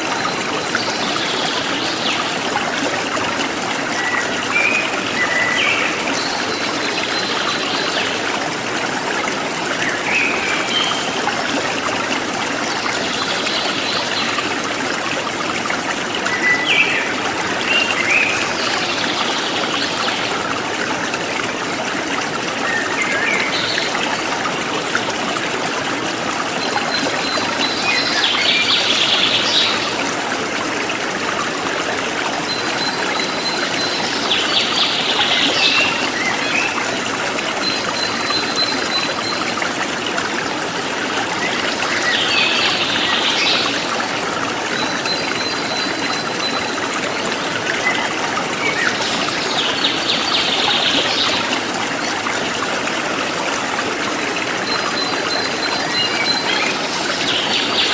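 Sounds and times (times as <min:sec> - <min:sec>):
forest stream flowing: 0:00.0 - 0:57.9.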